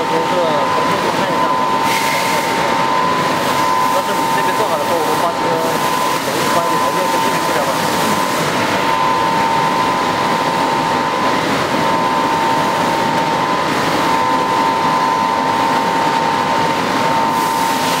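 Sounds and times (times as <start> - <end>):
high-pitched whine: 0.0 - 18.0
laser cutter rushing noise: 0.0 - 18.0.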